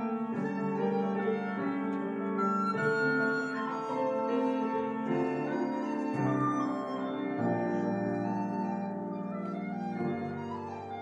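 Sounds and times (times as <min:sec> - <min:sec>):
piano accompaniment: 0:00.0 - 0:11.0
recorder melody: 0:00.0 - 0:11.0.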